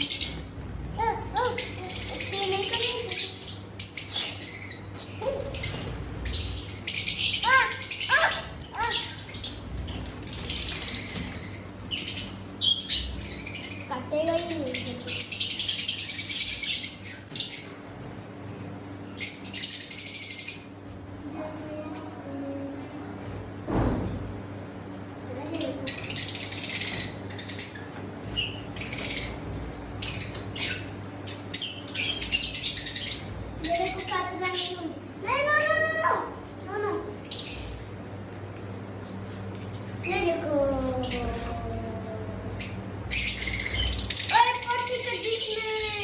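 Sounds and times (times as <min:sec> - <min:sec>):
small birds chirping: 0:00.0 - 0:21.8, 0:23.8 - 0:46.0.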